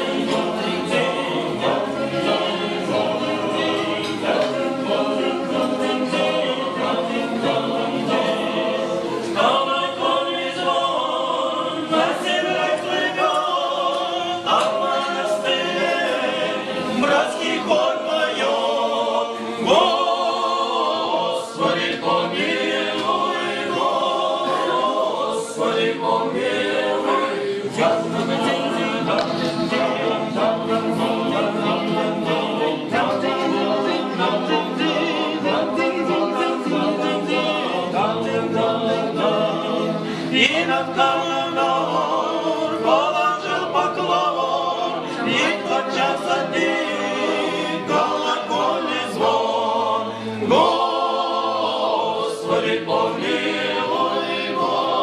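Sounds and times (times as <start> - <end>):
men singing a cappella: 0.0 - 55.0.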